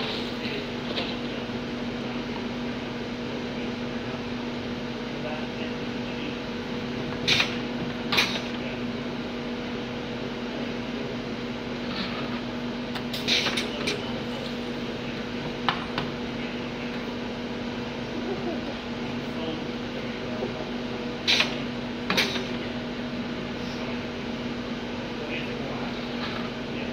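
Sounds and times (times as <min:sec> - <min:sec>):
bottle filling machine humming: 0:00.0 - 0:26.9.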